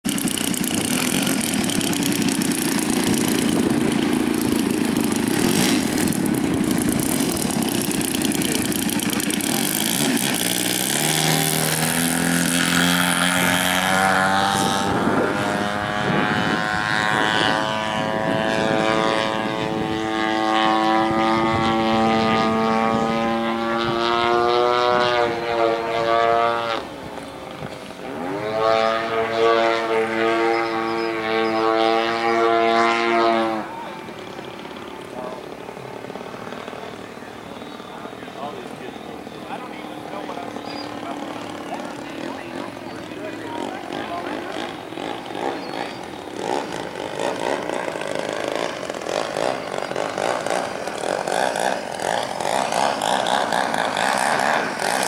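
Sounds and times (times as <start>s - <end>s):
model plane engine and propeller: 0.0s - 55.0s.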